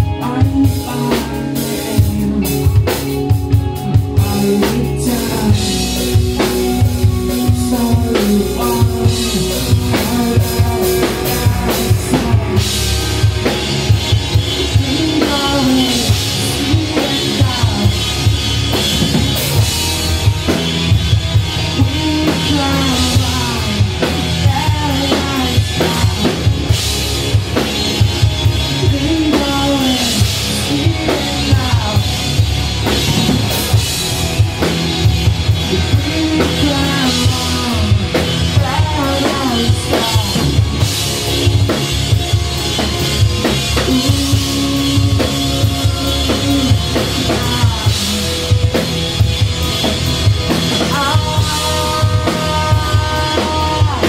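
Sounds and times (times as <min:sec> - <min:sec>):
person singing: 0:00.0 - 0:20.6, 0:21.6 - 0:26.9, 0:28.4 - 0:33.4, 0:35.5 - 0:41.2, 0:42.8 - 0:48.9, 0:50.5 - 0:54.0
bass guitar: 0:00.0 - 0:54.0
drum kit: 0:00.0 - 0:54.0
electric guitar: 0:00.0 - 0:54.0.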